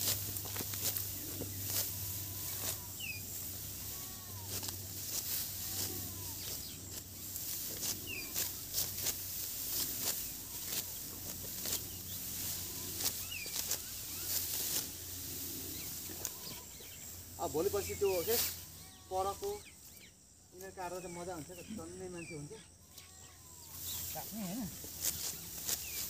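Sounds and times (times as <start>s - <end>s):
sickles snapping rice stalks: 0.0s - 20.8s, 22.9s - 26.0s
straw rustling: 0.0s - 21.7s, 23.0s - 26.0s.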